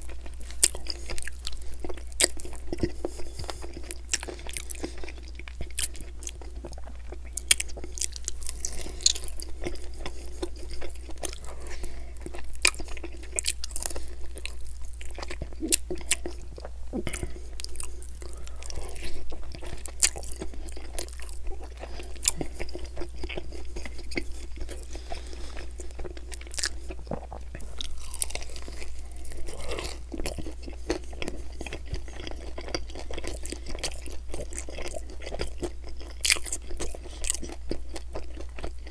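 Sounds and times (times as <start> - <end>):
chewing crunchy chicken wings: 0.0 - 38.9.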